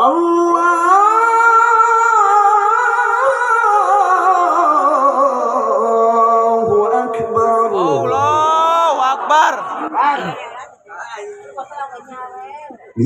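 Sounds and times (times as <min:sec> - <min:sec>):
melismatic recitation through loudspeakers: 0:00.0 - 0:12.1.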